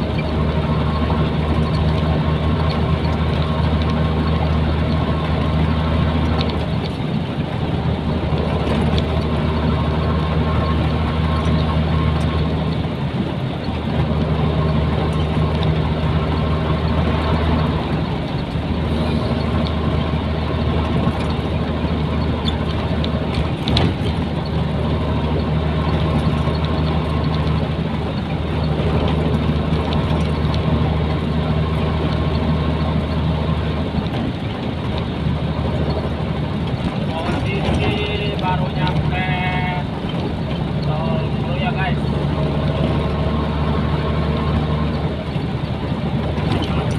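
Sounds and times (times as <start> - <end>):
road noise: 0.0 - 46.9
truck diesel engine droning: 0.0 - 46.9.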